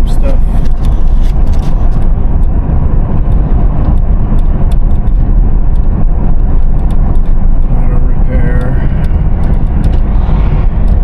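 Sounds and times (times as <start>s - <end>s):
tyre and engine rumble: 0.0s - 11.0s.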